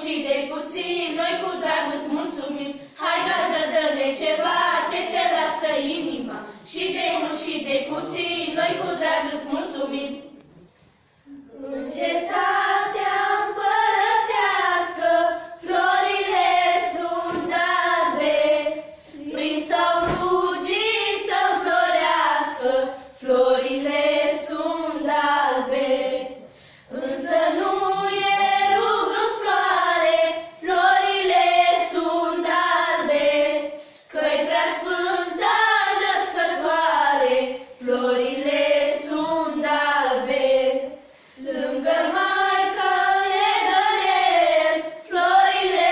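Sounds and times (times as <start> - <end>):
girls singing a carol unaccompanied: 0.0 - 10.4, 11.2 - 45.9.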